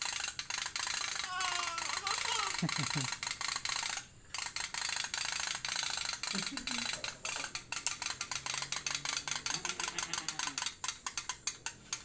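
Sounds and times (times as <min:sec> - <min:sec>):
toy steam boat popping: 0:00.0 - 0:12.0.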